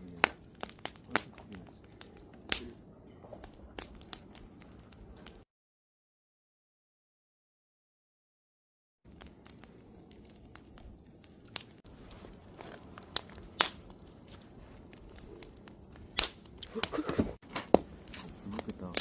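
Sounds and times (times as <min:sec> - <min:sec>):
campfire hiss: 0:00.0 - 0:05.4, 0:09.1 - 0:19.0
campfire pops and cracks: 0:00.0 - 0:05.4, 0:09.1 - 0:19.0.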